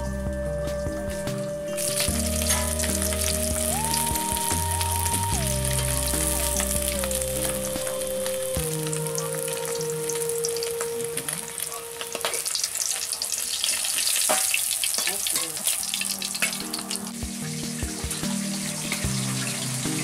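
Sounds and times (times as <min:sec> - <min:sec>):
fish sizzling in hot oil: 0:01.7 - 0:20.0.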